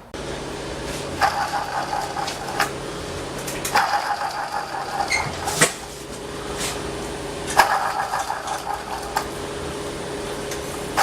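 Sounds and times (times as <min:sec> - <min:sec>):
motor humming: 0:00.2 - 0:11.0.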